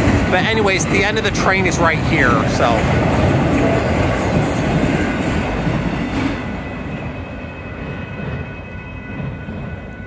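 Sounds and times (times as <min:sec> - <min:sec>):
freight train wheels rumbling: 0:00.0 - 0:10.0.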